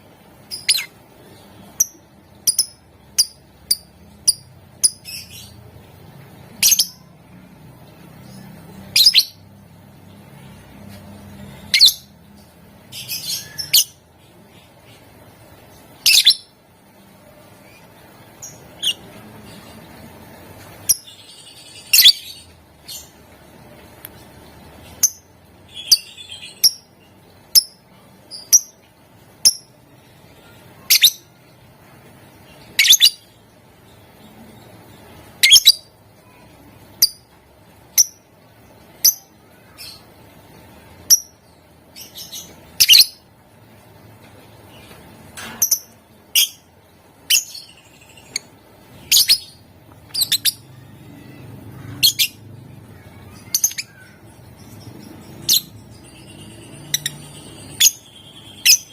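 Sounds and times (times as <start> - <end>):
faint background hum: 0.0 - 58.9
lovebird chirping: 0.4 - 5.6, 6.4 - 7.2, 8.2 - 9.6, 11.2 - 16.6, 17.4 - 23.2, 24.8 - 29.8, 30.4 - 31.4, 32.5 - 40.1, 41.0 - 43.3, 44.8 - 58.9.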